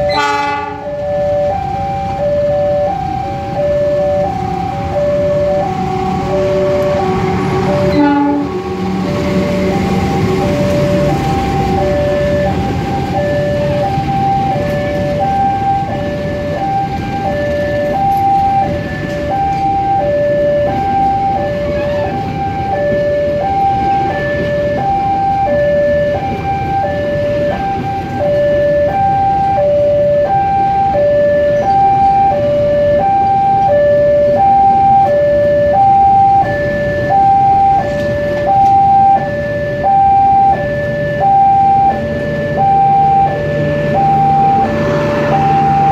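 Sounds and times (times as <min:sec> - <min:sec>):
level crossing alarm: 0:00.0 - 0:45.9
train coaches rumbling on rails: 0:00.0 - 0:45.9.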